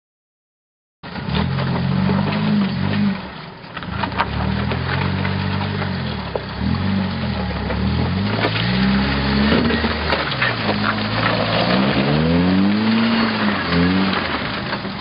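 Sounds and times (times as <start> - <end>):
vehicle engine revving under load: 1.1 - 15.0.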